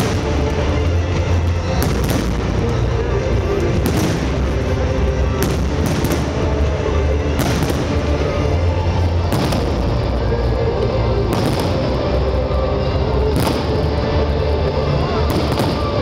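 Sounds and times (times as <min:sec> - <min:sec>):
fireworks bursting: 0:00.0 - 0:16.0
music playing: 0:00.0 - 0:16.0
steady loud din: 0:00.0 - 0:16.0.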